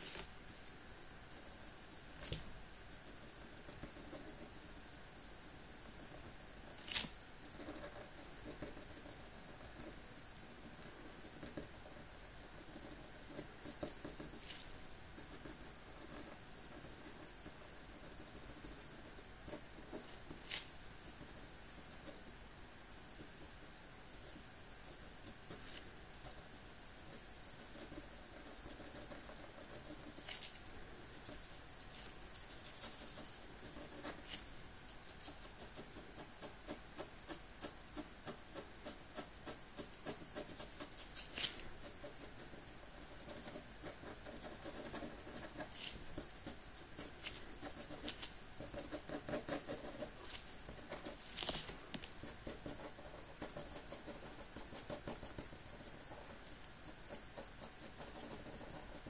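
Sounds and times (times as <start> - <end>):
pen scratching on paper: 2.2 - 4.7, 5.9 - 10.0, 10.6 - 22.2, 24.2 - 59.0.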